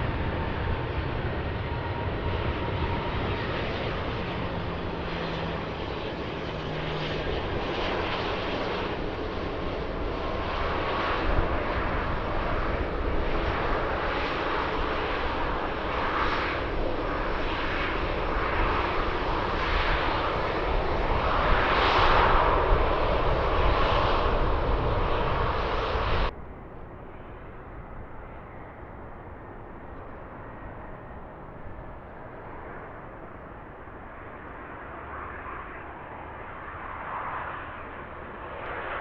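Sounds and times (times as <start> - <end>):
jet engines roaring: 0.0 - 39.0
wind rumbling on microphone: 0.0 - 39.0.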